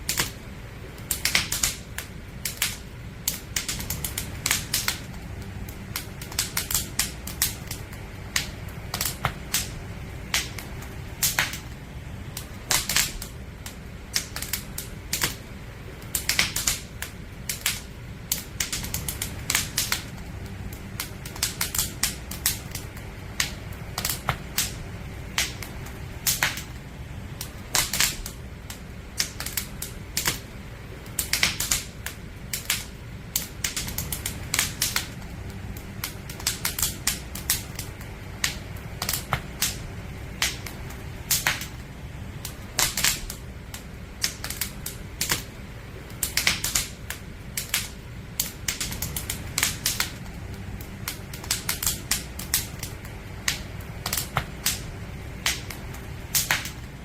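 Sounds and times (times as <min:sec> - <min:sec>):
low rumble: 0:00.0 - 0:57.0
wood fire crackling: 0:00.0 - 0:57.0.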